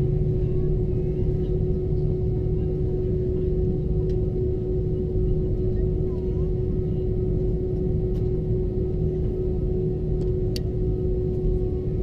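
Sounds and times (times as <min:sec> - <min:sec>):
aircraft engines idling rumble: 0:00.0 - 0:12.0
constant cabin hum: 0:00.0 - 0:12.0.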